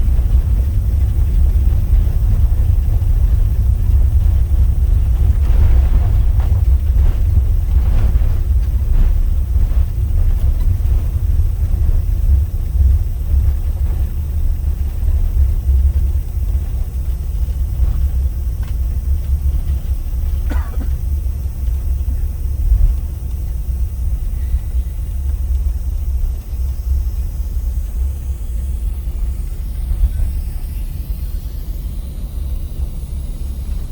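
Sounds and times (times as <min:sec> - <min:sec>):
aircraft cabin rumble: 0:00.0 - 0:33.9.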